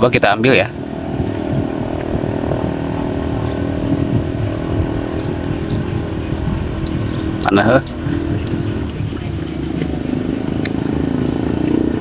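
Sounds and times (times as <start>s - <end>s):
steady low drone: 0.0s - 12.0s.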